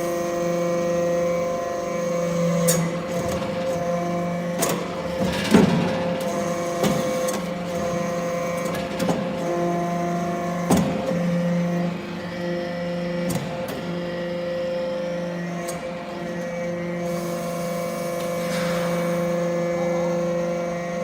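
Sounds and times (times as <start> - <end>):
motor and pump hum: 0.0 - 21.0.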